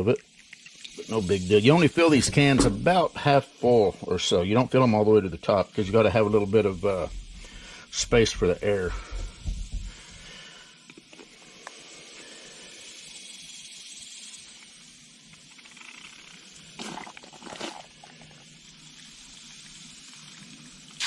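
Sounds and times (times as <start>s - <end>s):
faint hiss of spray lubricant: 0.0s - 21.0s.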